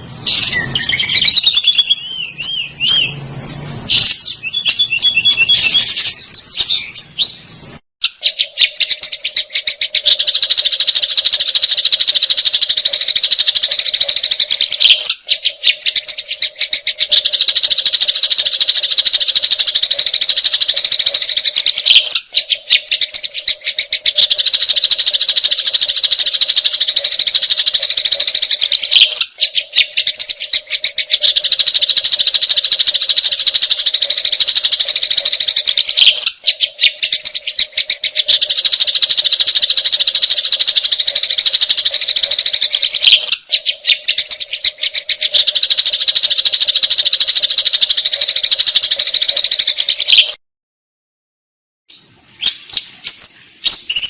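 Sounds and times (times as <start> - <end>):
sparrows chattering: 0.0 - 50.4, 51.9 - 54.0.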